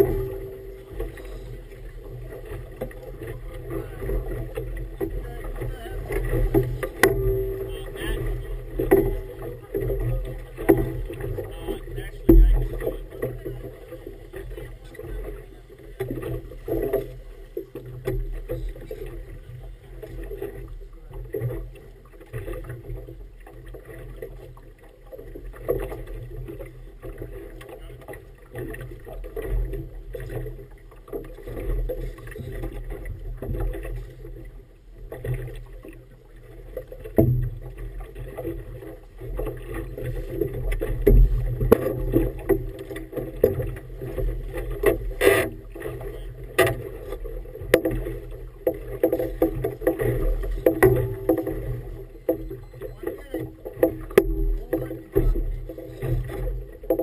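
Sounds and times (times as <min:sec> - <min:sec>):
water slapping against boat hull: 0:00.0 - 0:57.0.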